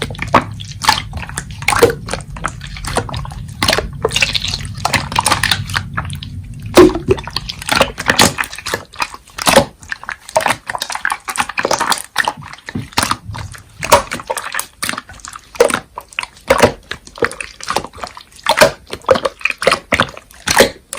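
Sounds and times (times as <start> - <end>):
slime squelching by hand: 0.0 - 20.9.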